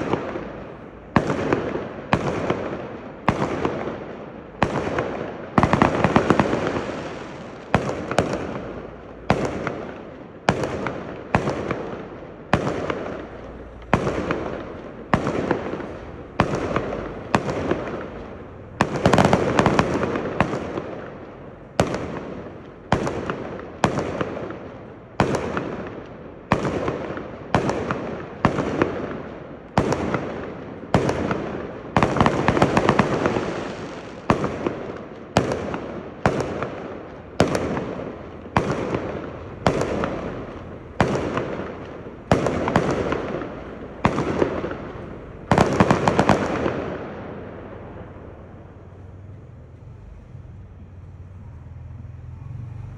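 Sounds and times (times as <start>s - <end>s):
fireworks bangs with echoing tail: 0.0s - 50.0s.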